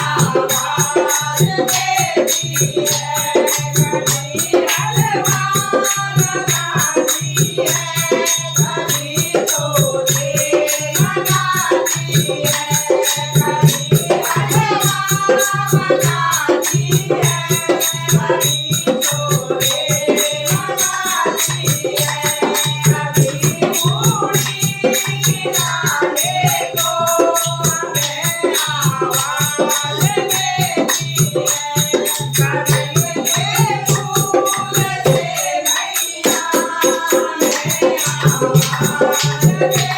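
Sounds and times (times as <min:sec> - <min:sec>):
group singing: 0:00.0 - 0:39.9
hand percussion beat: 0:00.0 - 0:39.9.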